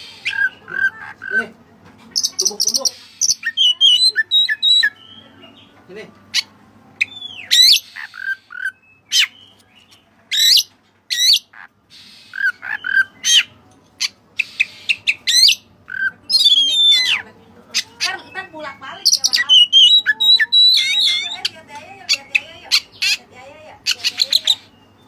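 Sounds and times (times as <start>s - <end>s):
magpie-robin singing: 0.0s - 25.0s.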